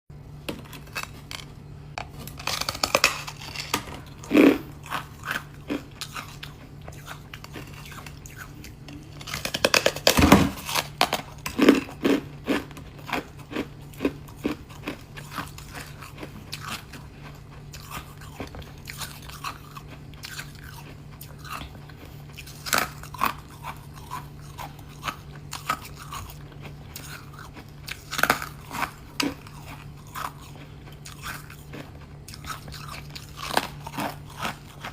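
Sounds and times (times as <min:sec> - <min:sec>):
faint low hum: 0:00.1 - 0:34.9
ice crunching being chewed: 0:00.6 - 0:34.9.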